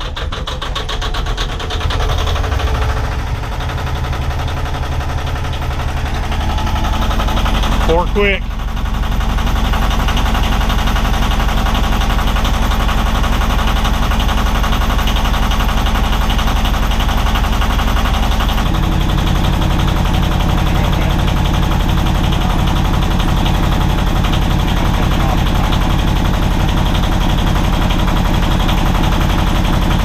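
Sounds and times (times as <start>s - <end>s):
diesel engine knocking: 0.0s - 30.0s.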